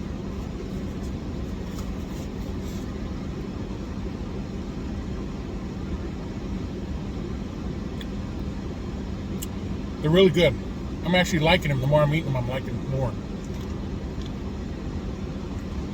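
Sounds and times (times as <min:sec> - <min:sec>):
constant hum: 0:00.0 - 0:15.9
steady low rumble: 0:00.0 - 0:15.9.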